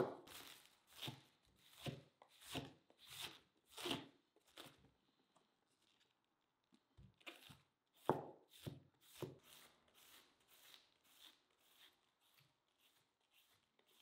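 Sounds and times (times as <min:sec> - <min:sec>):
knife slicing cabbage: 0:00.0 - 0:04.9, 0:07.2 - 0:14.0.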